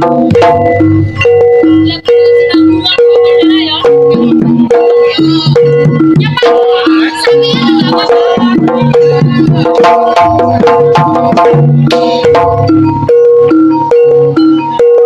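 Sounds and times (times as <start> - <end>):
gamelan ensemble playing: 0.0 - 15.0
hand drums beating: 0.0 - 15.0.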